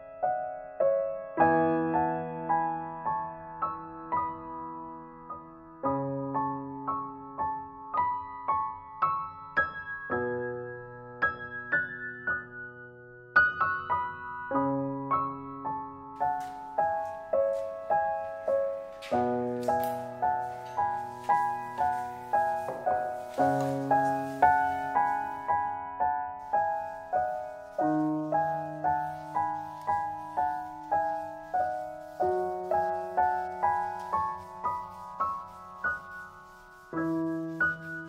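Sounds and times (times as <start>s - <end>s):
gentle piano music: 0.0s - 38.0s.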